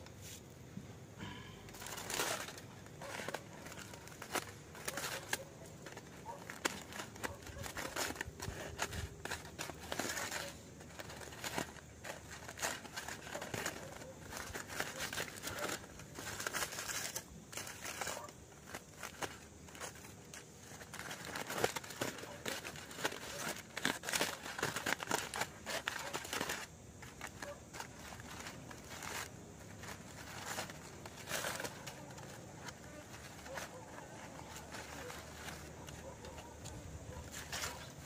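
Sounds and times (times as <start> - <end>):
foil and plastic bag crinkling: 1.2 - 38.0.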